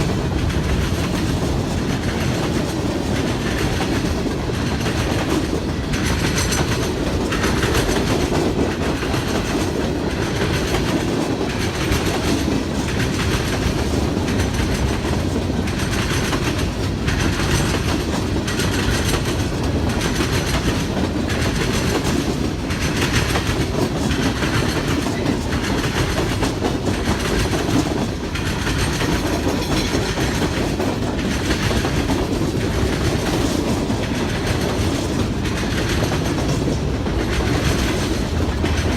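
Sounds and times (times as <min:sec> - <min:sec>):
freight train rumble: 0:00.0 - 0:38.9
wheels clickety-clack on rail joints: 0:00.0 - 0:38.9.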